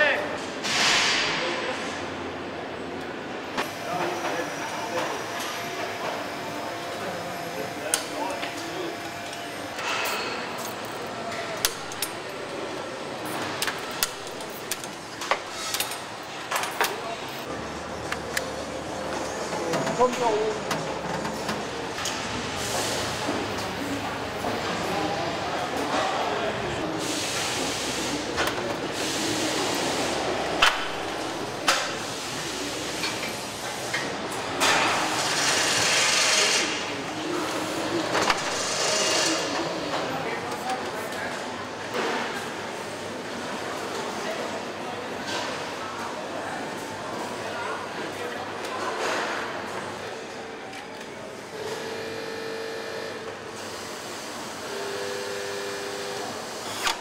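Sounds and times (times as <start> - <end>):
factory background noise: 0.0 - 57.0.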